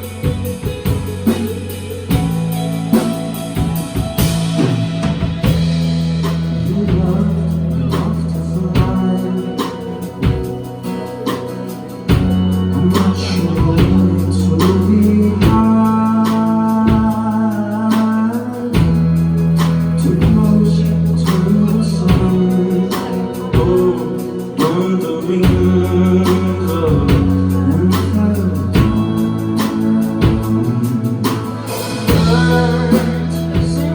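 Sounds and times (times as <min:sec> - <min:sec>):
live rock band playing: 0:00.0 - 0:33.9
man singing: 0:06.2 - 0:33.9.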